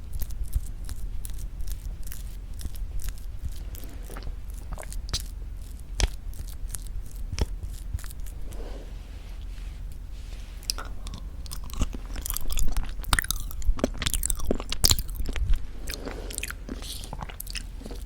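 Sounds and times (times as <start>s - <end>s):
sticky mouth eating sounds: 0.0s - 8.5s, 10.6s - 18.0s.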